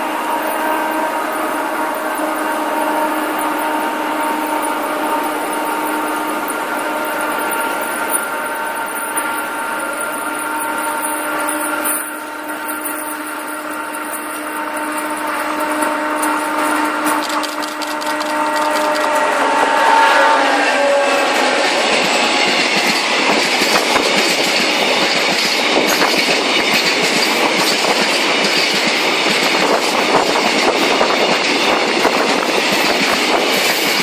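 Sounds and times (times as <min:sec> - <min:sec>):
locomotive whine and drone: 0:00.0 - 0:34.0
train wheels clicking on rails: 0:00.0 - 0:34.0.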